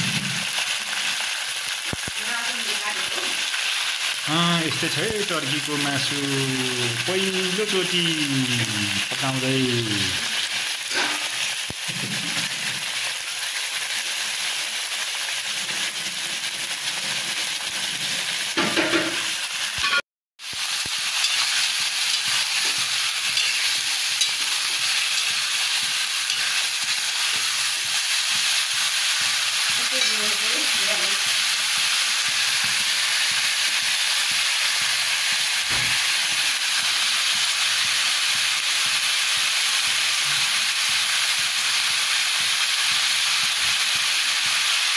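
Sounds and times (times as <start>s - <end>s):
meat sizzling in a wok: 0.0s - 44.9s.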